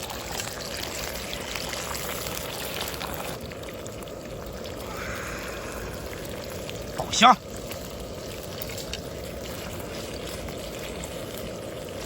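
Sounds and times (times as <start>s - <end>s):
liquid pouring: 0.0s - 12.0s.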